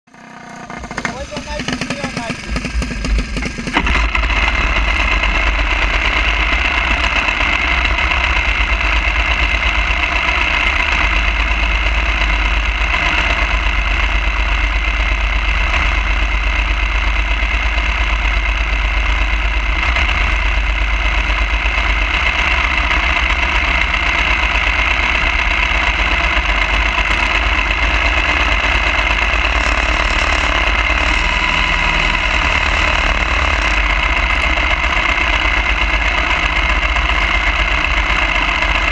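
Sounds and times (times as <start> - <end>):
small engine idling: 0.0 - 38.9.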